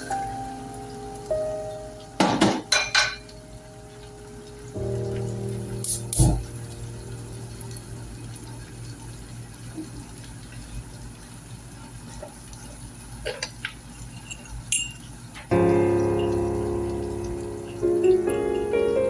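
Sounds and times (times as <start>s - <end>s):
tap water running: 0.0s - 19.0s.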